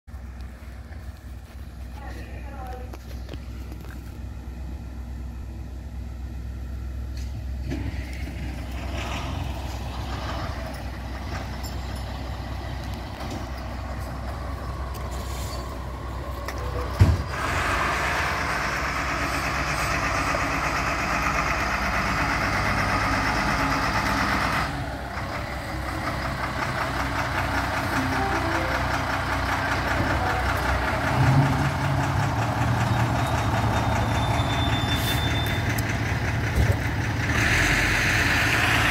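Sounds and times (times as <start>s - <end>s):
fire truck engines idling: 0.1s - 38.9s.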